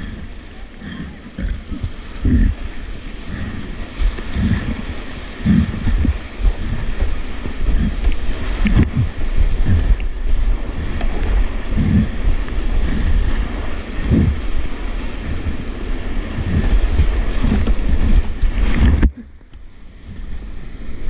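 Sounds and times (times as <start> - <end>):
whitewater rapids rushing: 0.0 - 19.2
low thumps and buffeting: 0.0 - 21.0.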